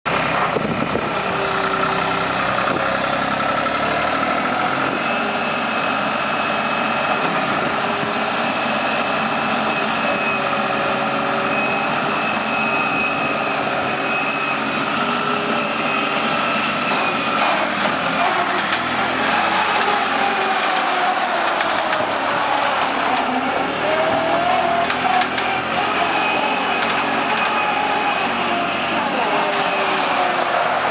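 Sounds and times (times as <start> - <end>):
skid steer engine running: 0.1 - 30.9.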